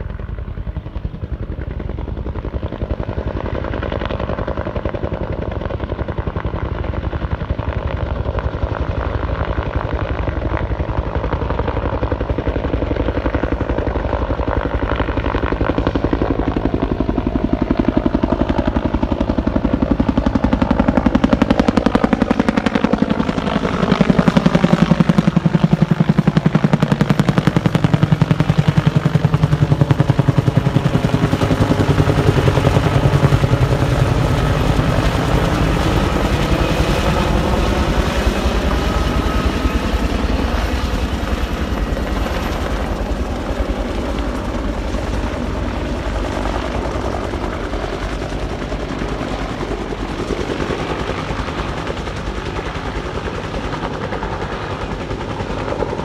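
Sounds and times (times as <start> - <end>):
helicopter engine whine: 0.0 - 56.0
helicopter rotor chopping: 0.0 - 56.0.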